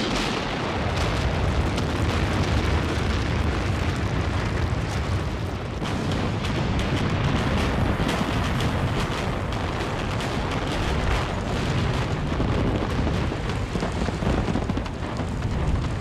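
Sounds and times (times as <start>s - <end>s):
rumble of falling masonry: 0.0s - 16.0s
sharp cracks: 0.0s - 16.0s.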